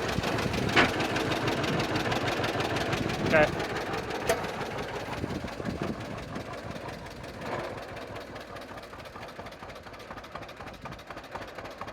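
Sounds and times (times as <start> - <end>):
tractor engine idling: 0.0 - 11.9.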